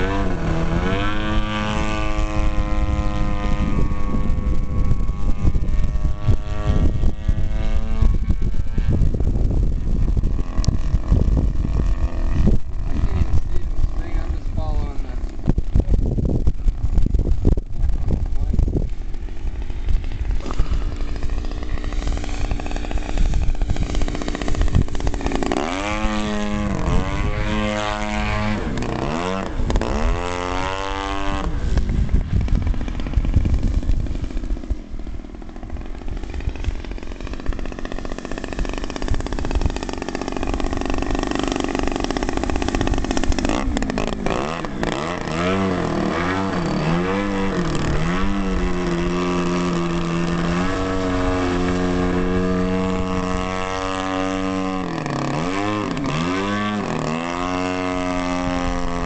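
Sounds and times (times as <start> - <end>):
model plane engine: 0.0 - 59.0.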